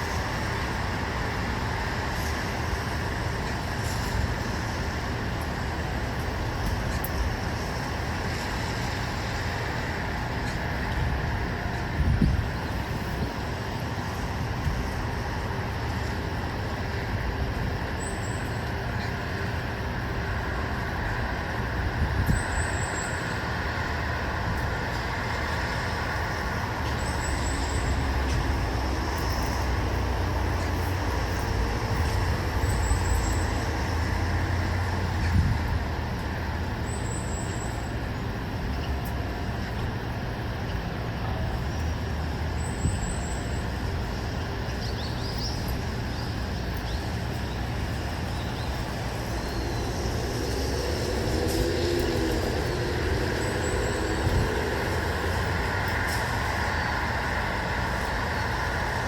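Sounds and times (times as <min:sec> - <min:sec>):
distant road traffic hum: 0:00.0 - 0:59.0
vehicles passing: 0:00.0 - 0:59.0.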